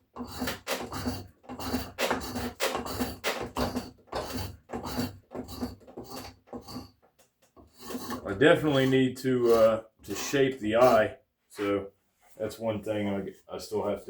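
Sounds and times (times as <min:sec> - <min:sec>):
hand tool scraping wood: 0:00.0 - 0:12.5.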